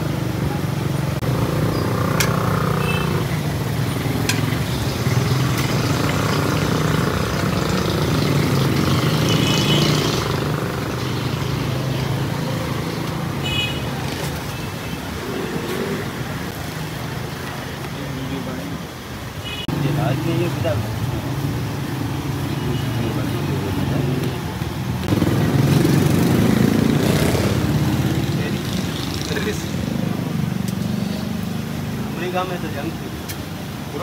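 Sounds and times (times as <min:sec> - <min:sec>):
traffic engines humming: 0:00.0 - 0:34.0.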